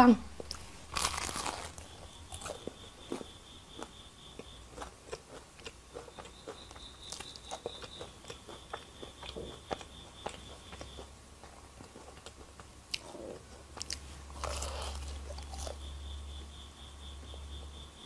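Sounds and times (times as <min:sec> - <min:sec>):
chewing crunchy food: 0:00.4 - 0:16.4.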